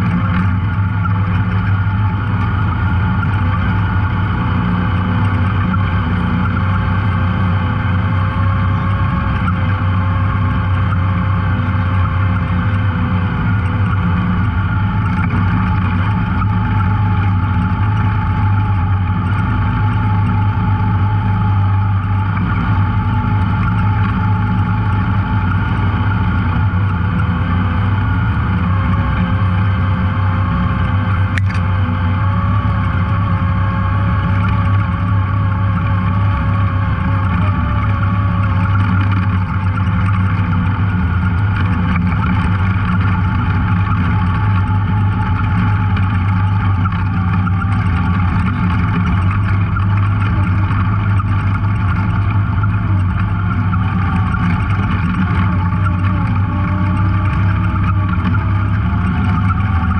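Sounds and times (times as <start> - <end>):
off-road vehicle engine under load: 0.0 - 59.9.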